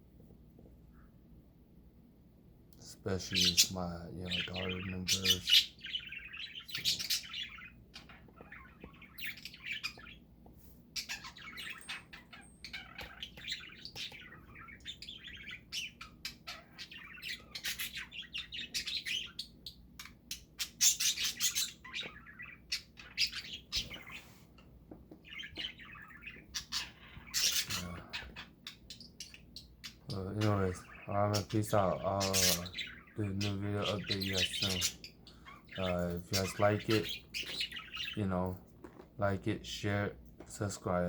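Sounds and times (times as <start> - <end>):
budgerigars chirping: 3.1 - 10.3, 10.9 - 24.6, 25.2 - 38.6.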